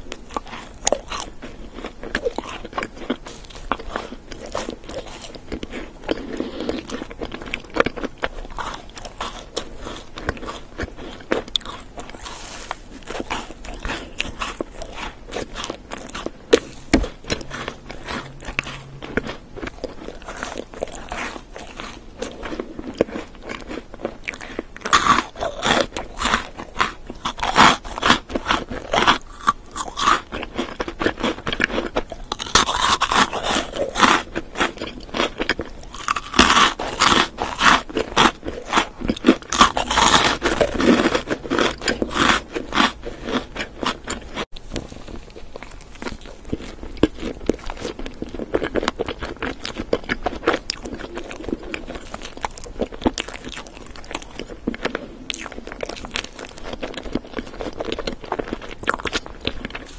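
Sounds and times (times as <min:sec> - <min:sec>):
person chewing and biting food: 0:00.0 - 0:59.9
crisp crunches: 0:00.2 - 0:59.9.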